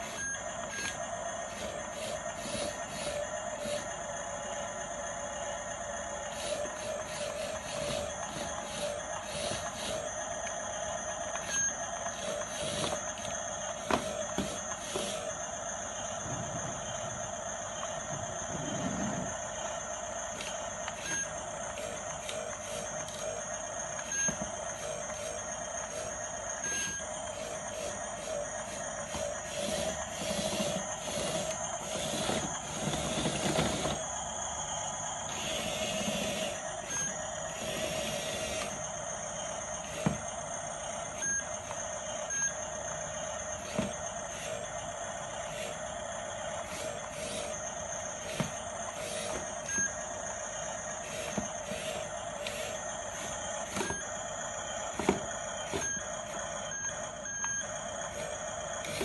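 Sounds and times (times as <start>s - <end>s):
model bulldozer motors whining: 0.0s - 59.0s.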